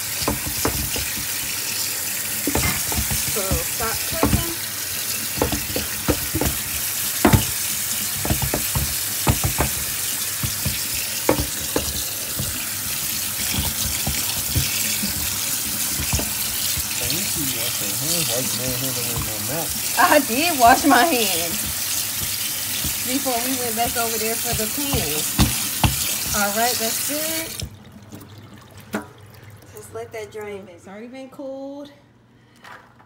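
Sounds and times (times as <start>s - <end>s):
knocks and clatters in sink: 0.0s - 1.6s, 2.3s - 28.2s
tap water running: 0.0s - 29.9s.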